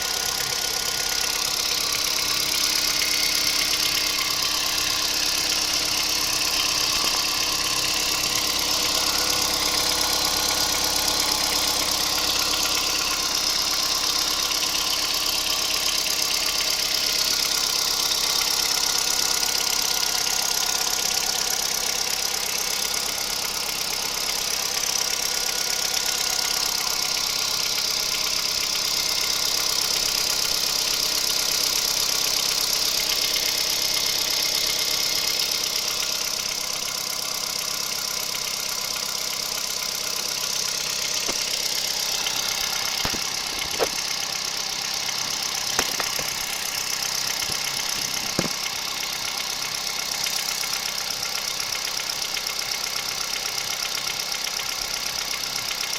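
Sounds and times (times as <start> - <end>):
car engine running with knock: 0.0 - 55.9.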